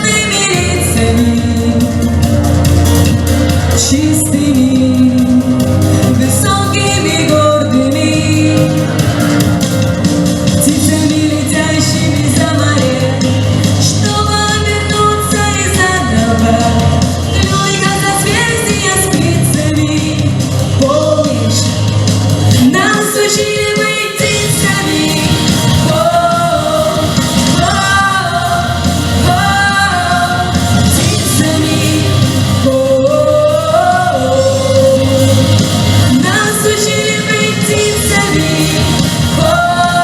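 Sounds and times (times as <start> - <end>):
song with lead vocal and band: 0.0 - 40.0.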